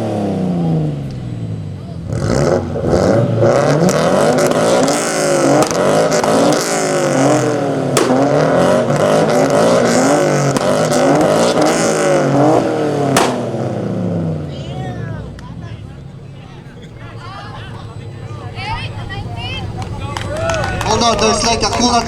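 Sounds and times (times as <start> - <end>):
car engines revving: 0.0 - 22.0
exhaust pops crackling: 0.0 - 22.0
loud exhaust bangs: 0.0 - 22.0.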